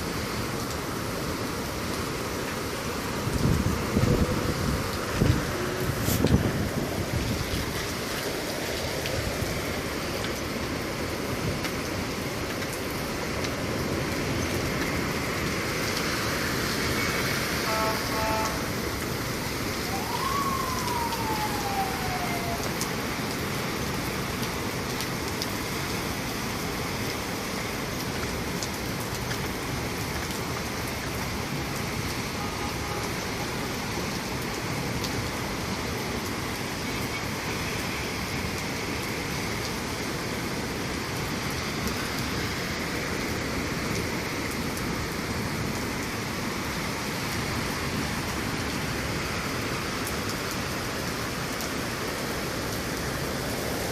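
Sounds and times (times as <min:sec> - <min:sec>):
rain hissing: 0:00.0 - 0:53.9.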